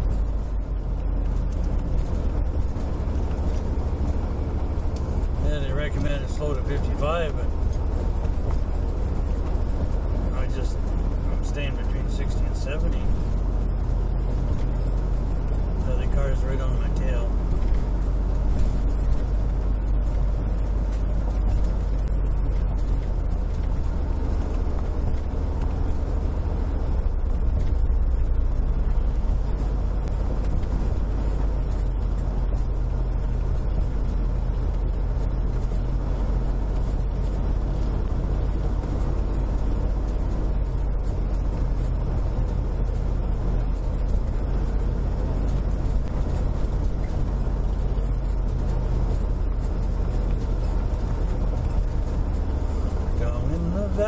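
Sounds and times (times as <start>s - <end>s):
engine and road drone: 0.0s - 54.0s.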